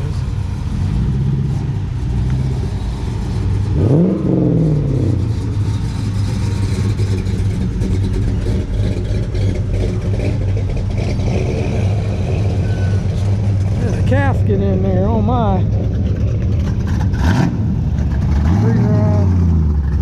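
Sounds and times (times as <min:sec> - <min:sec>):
car engine revving: 0:00.0 - 0:20.0
cars passing slowly: 0:00.0 - 0:20.0.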